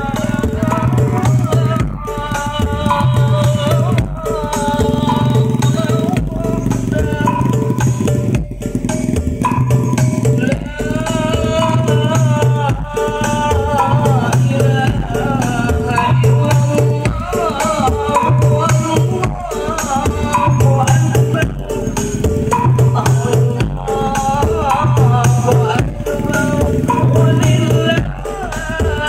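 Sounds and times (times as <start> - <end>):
loud music with heavy bass: 0.0 - 29.0.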